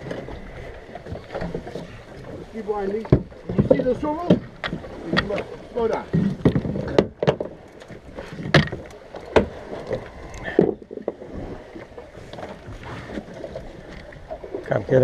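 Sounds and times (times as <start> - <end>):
knocks and thuds on boat: 0.0 - 15.0
water washing: 0.0 - 15.0
wind: 0.0 - 15.0.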